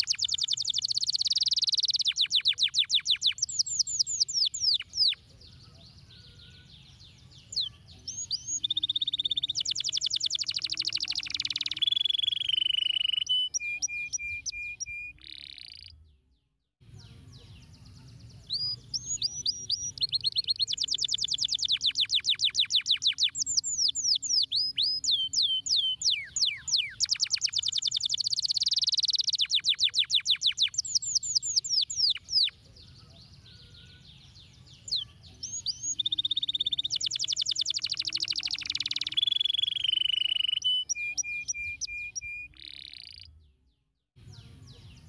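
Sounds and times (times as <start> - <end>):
canary singing trills: 0.0 - 16.1, 16.8 - 43.6.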